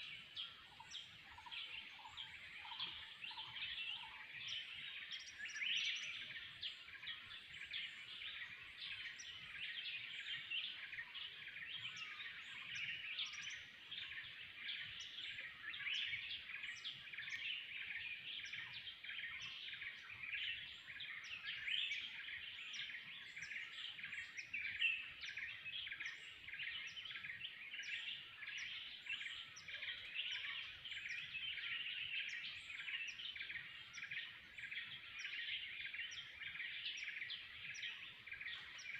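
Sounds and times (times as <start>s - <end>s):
chorus of wild birds chirping: 0.0s - 38.9s.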